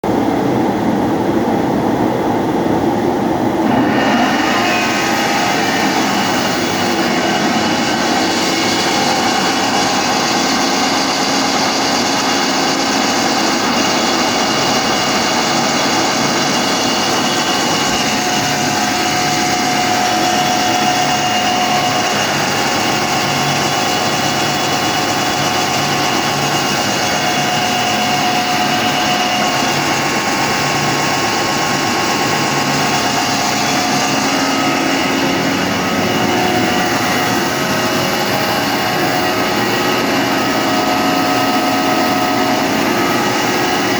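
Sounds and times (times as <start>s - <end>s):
air compressor whine: 0.0s - 43.9s.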